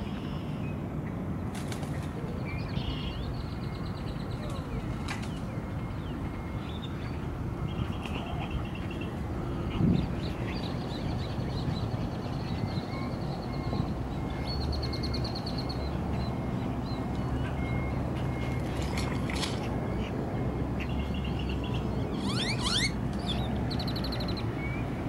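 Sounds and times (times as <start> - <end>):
birds trilling and calling: 1.7 - 24.9.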